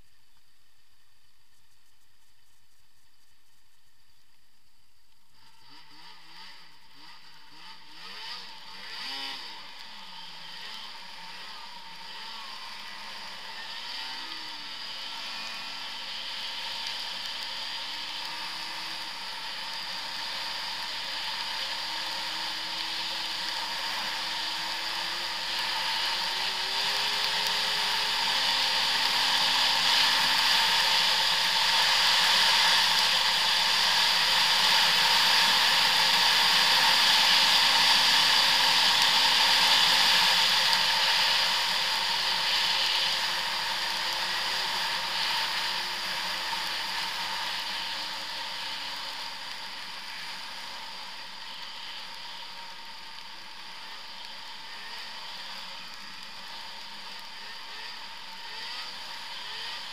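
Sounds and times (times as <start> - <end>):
snowmobile engine and track: 5.2 - 59.9.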